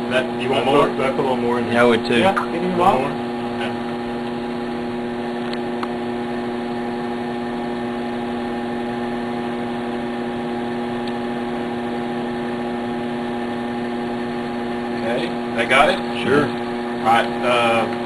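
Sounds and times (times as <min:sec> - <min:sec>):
electrical machine hum: 0:00.0 - 0:18.0.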